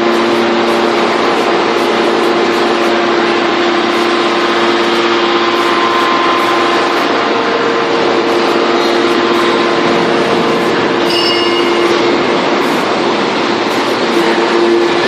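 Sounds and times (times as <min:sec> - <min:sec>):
baler machine hum: 0:00.0 - 0:15.0
higher machine tone: 0:00.0 - 0:15.0.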